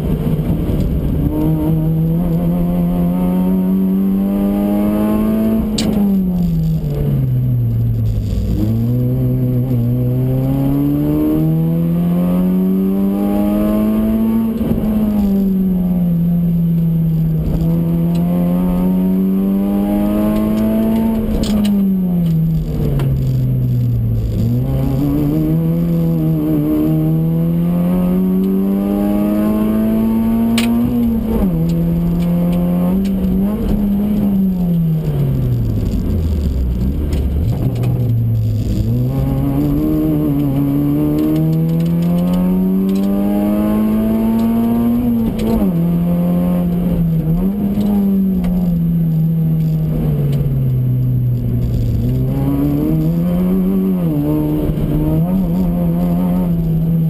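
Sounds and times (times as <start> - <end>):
car engine revving and shifting: 0.0 - 57.0.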